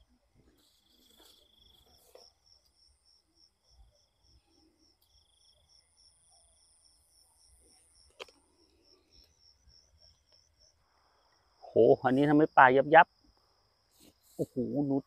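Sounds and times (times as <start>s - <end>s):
continuous insect trill: 0.0s - 15.0s
crickets chirping: 0.0s - 15.0s.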